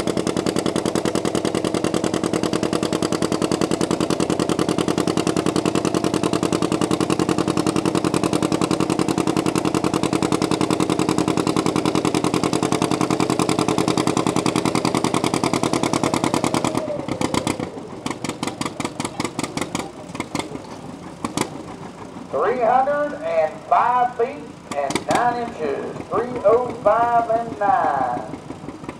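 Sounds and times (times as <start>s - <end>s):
tractor engine running under load: 0.0s - 28.9s.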